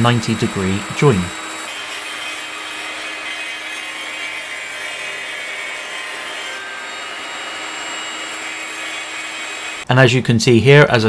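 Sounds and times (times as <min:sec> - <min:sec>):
machine motor whirring: 0:00.0 - 0:09.9.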